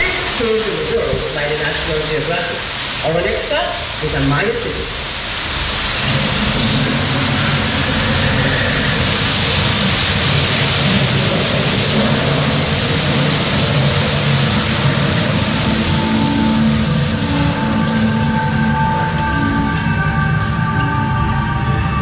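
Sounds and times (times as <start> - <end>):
train rushing hiss: 0.0 - 22.0.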